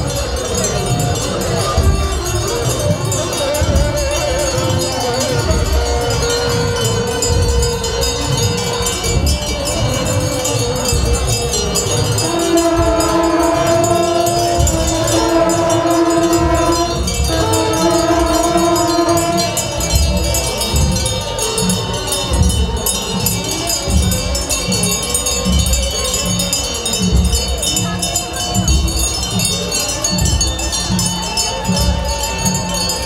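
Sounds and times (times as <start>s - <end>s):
crowd noise: 0.0s - 33.0s
liturgical chanting: 0.0s - 33.0s.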